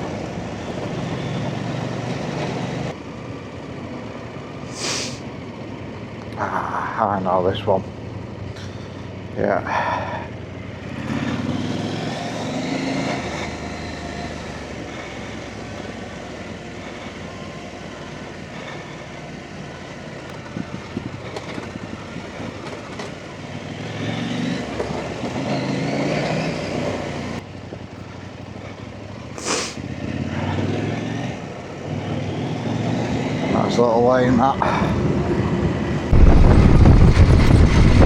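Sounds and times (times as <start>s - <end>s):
trail motorcycle engine running: 0.0s - 38.0s.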